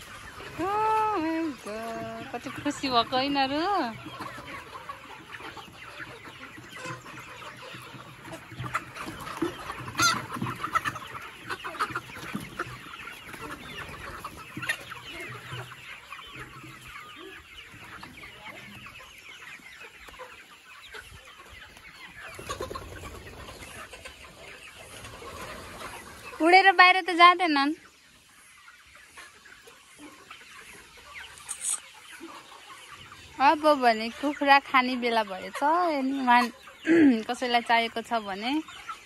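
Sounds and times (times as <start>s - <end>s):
chickens clucking and calling: 0.0s - 39.0s.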